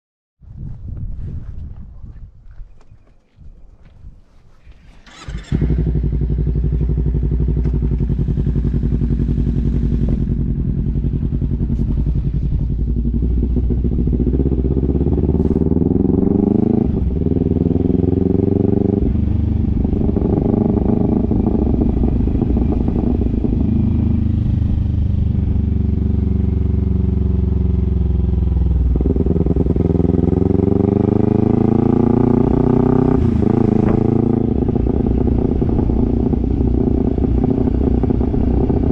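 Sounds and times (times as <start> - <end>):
motorcycle engine revving: 4.9 - 38.9.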